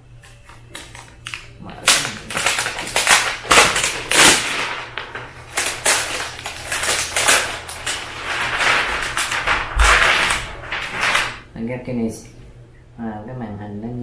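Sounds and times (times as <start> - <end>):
packaging crinkling: 0.2 - 11.5.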